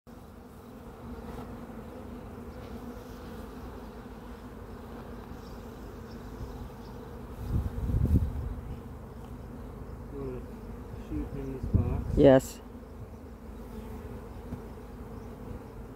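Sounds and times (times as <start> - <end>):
honeybees buzzing: 0.1 - 15.9.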